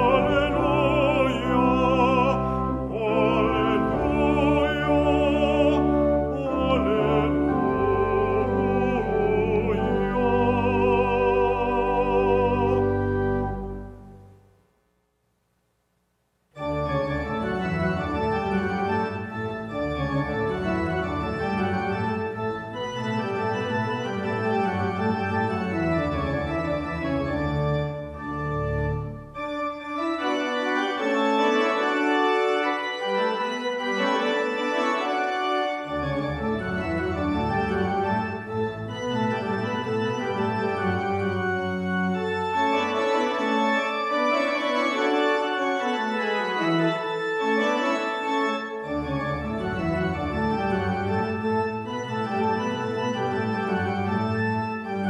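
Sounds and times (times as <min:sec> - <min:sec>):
church organ chords: 0:00.0 - 0:14.5, 0:16.6 - 0:55.0.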